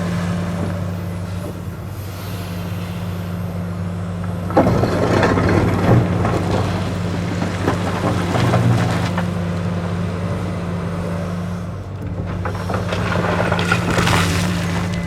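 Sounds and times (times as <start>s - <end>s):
excavator diesel engine running: 0.0s - 15.0s
gravel clattering and scraping: 0.0s - 15.0s.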